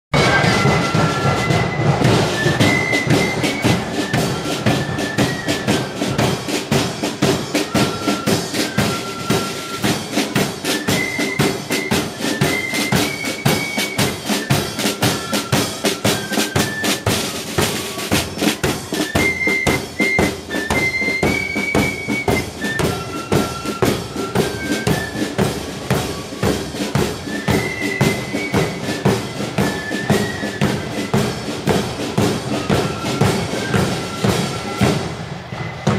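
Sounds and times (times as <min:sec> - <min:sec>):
bass drum beating march rhythm: 0:00.1 - 0:35.9
flutes playing high melody: 0:00.1 - 0:35.9
snare drums: 0:00.1 - 0:35.9.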